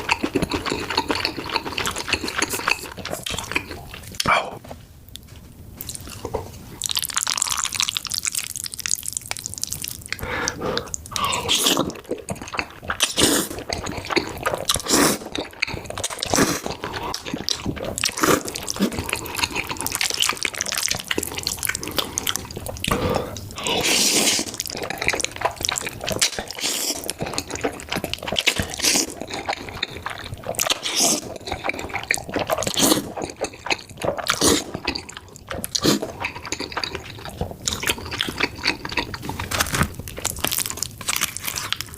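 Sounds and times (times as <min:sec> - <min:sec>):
slurping and chewing noodles: 0:00.0 - 0:04.3, 0:05.8 - 0:41.9.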